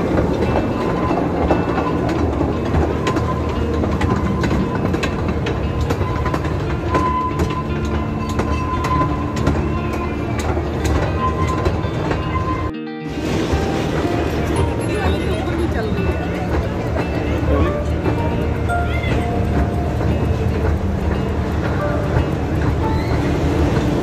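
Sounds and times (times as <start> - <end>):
ride car rumbling on rails: 0.0 - 24.0
wheels clacking over track: 0.0 - 24.0.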